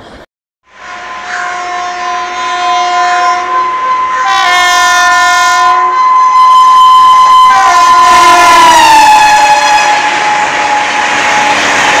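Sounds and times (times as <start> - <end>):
train air horn: 0.7 - 11.7.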